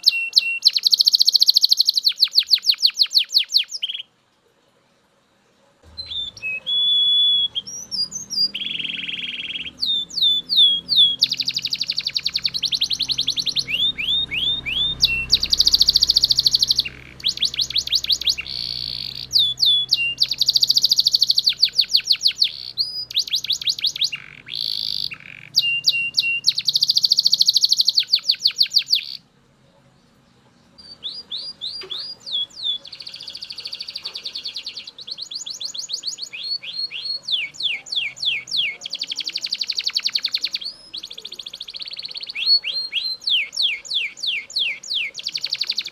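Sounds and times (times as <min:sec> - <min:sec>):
canary singing trills: 0:00.0 - 0:04.2, 0:05.8 - 0:45.9.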